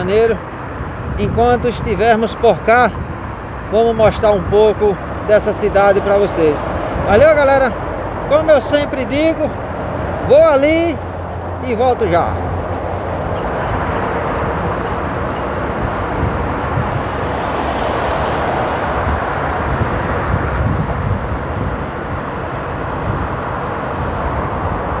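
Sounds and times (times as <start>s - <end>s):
wind and road noise: 0.0s - 25.0s.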